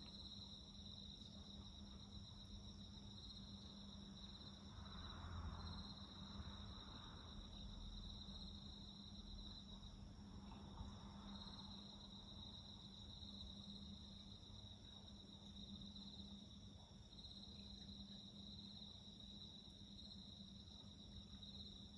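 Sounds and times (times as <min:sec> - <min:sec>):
crickets trilling: 0:00.0 - 0:21.9.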